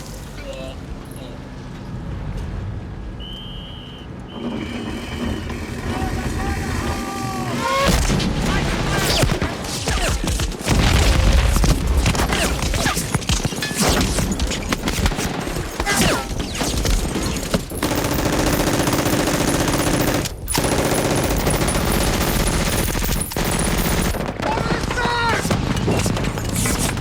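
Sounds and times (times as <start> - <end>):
rifle and machine-gun fire: 5.2 - 27.0.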